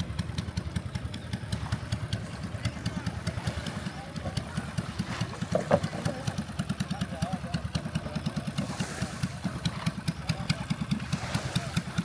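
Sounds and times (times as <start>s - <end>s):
engine idling: 0.0s - 12.0s
faint voices: 0.0s - 12.0s.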